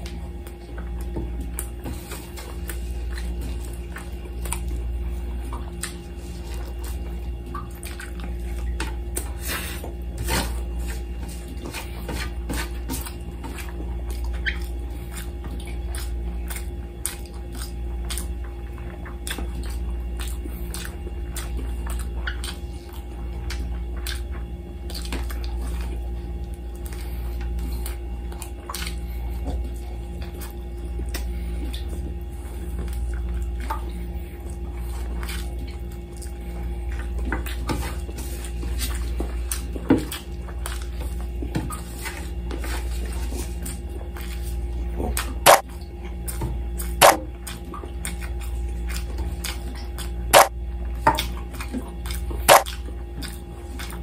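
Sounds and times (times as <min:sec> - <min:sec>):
steady low hum: 0:00.0 - 0:54.0
wet chewing and lip smacks: 0:00.0 - 0:54.0.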